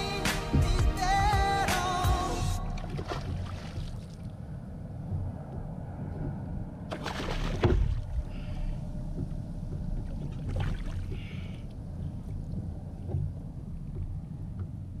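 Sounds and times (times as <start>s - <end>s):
steady low rumble: 0.0s - 15.0s
water splashing against kayak: 2.2s - 4.4s, 5.1s - 15.0s.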